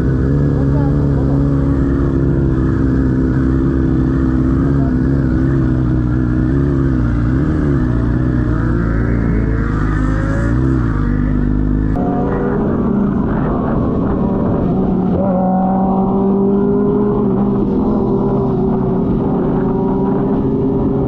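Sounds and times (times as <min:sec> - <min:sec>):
engine revving up: 0:00.0 - 0:21.0
engines idling with revs: 0:00.0 - 0:21.0.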